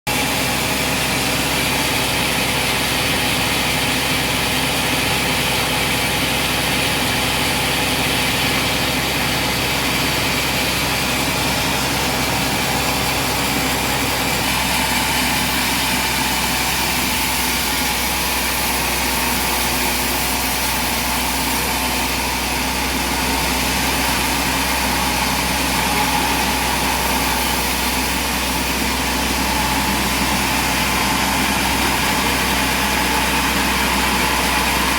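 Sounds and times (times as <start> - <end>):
engine running steadily: 0.1 - 34.9.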